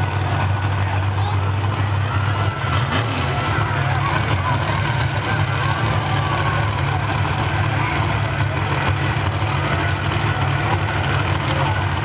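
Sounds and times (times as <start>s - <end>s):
truck engines idling: 0.0s - 12.0s.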